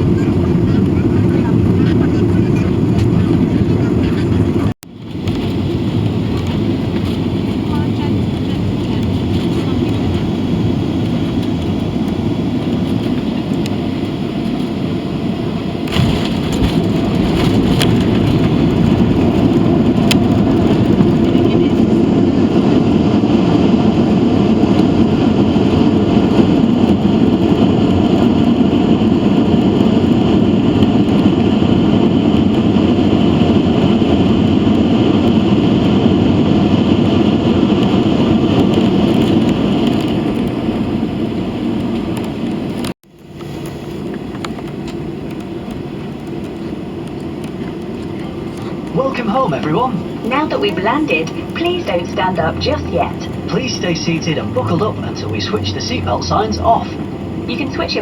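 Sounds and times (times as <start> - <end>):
jet engines and rushing air roar: 0.0 - 58.0.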